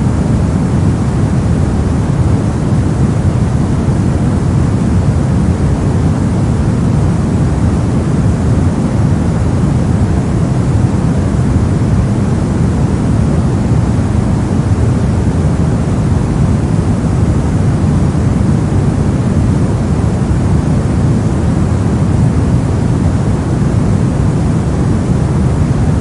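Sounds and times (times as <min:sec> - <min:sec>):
deep steady noise: 0:00.0 - 0:26.0.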